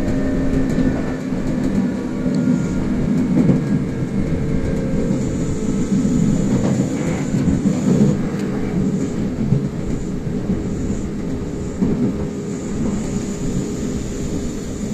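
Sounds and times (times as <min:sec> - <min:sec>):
humming drone: 0:00.0 - 0:14.9
train wheels rumbling on rails: 0:00.0 - 0:14.9.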